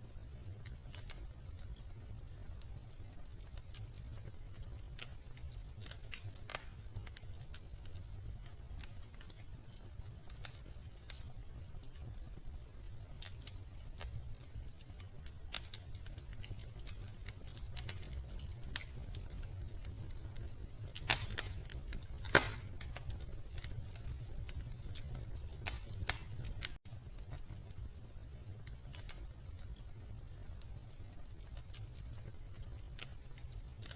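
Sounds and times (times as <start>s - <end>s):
low fire rumble: 0.0s - 33.9s
sharp fire pops: 0.0s - 33.9s
wood fire crackling: 0.0s - 33.9s.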